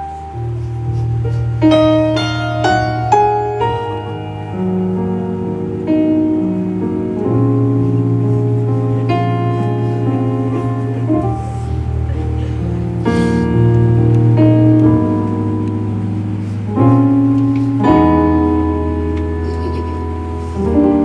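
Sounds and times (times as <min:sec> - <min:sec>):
keyboard playing slow chords: 0:00.0 - 0:21.0.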